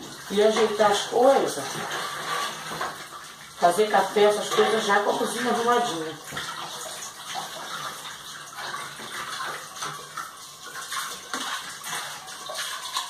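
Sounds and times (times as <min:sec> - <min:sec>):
tap water splashing into sink: 0:00.0 - 0:13.0.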